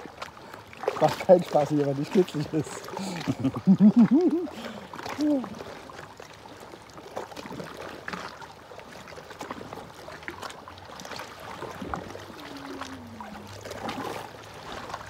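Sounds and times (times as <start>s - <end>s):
small waves lapping on rocks: 0.0s - 15.0s.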